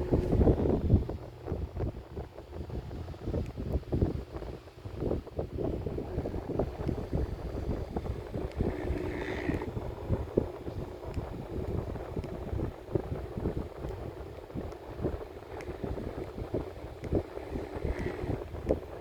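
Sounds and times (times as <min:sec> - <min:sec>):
fan airflow buffeting microphone: 0:00.0 - 0:19.0.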